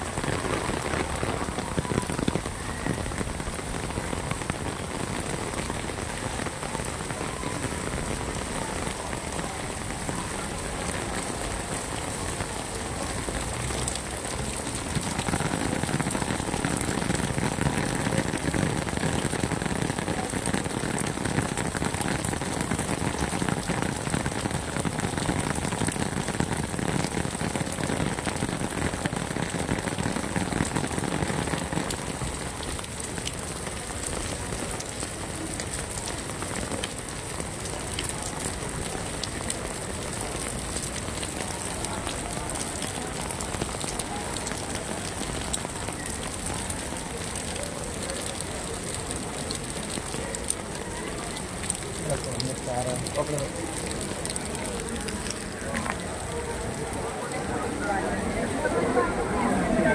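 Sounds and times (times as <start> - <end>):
heavy rain on paving: 0.0 - 59.9.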